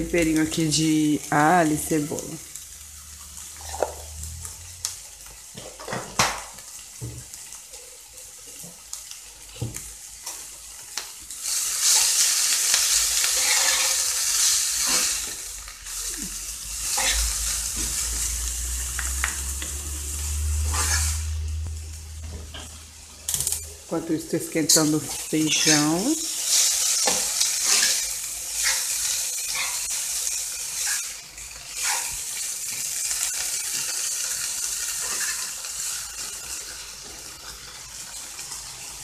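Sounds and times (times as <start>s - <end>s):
greens sizzling in frying pan: 0.0s - 39.0s.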